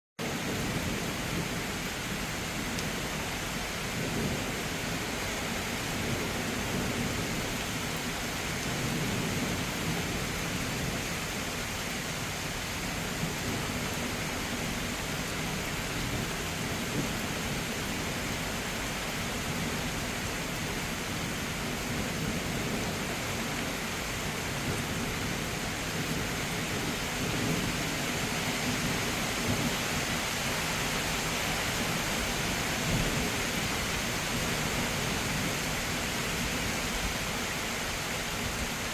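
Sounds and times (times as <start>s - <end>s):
heavy rain: 0.2s - 38.9s.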